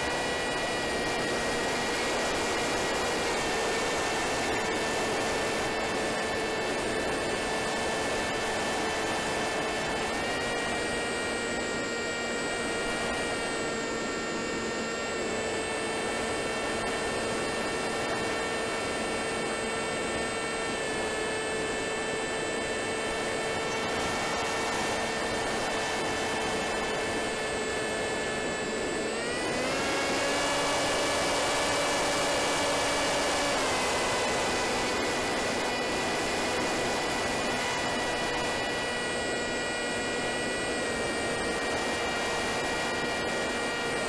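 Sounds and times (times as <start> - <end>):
electric motor whine: 0.0 - 44.0.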